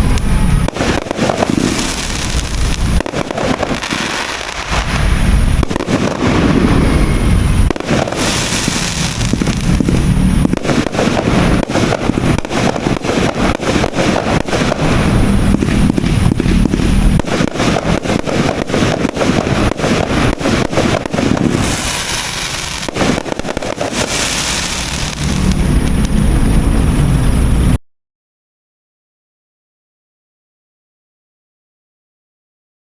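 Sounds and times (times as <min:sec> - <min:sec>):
fireworks bangs: 0:00.0 - 0:27.8.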